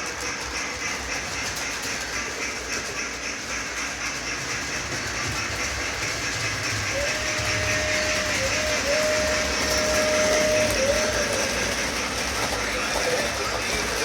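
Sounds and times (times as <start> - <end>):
rail clatter: 0.0 - 14.0
steam hissing: 0.0 - 14.0.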